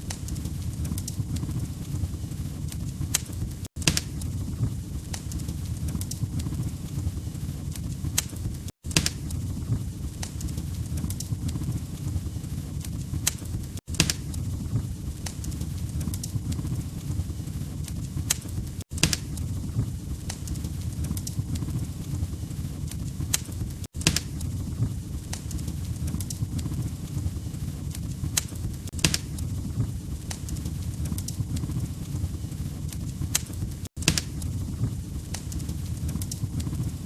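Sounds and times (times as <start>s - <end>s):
log fire crackling: 0.0s - 37.0s.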